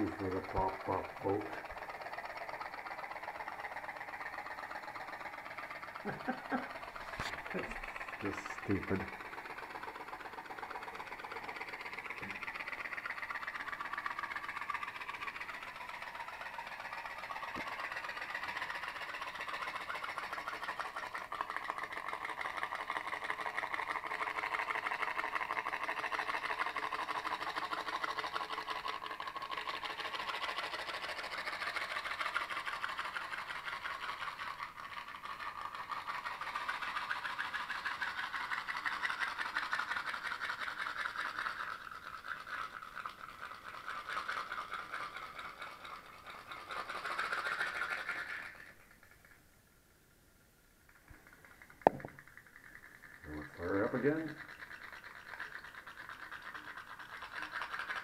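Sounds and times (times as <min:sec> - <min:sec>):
toy steam boat engine popping: 0:00.0 - 0:49.5, 0:50.7 - 0:58.0.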